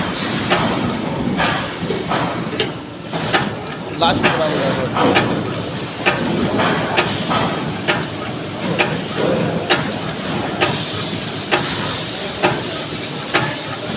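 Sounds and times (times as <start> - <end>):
machine clacking: 0.0 - 13.9.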